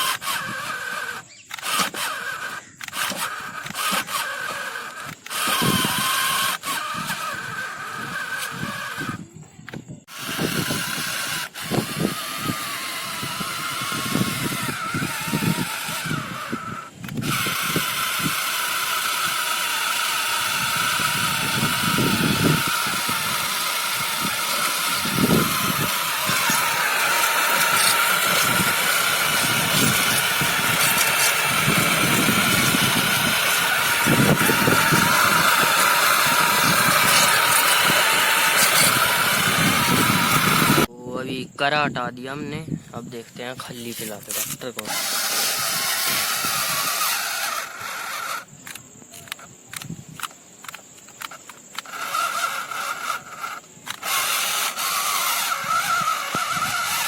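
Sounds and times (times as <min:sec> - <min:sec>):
model tractor motor whine: 0:00.0 - 0:40.9, 0:43.4 - 0:57.0.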